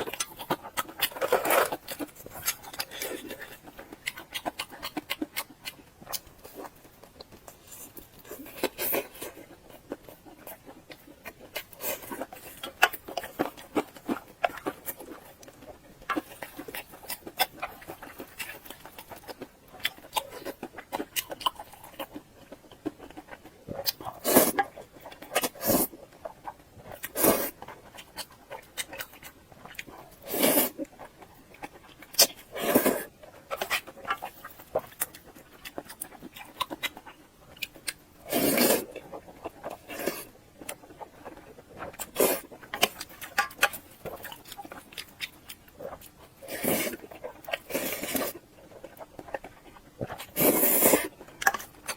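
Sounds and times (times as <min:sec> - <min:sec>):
person chewing and slurping: 0:00.0 - 0:51.9.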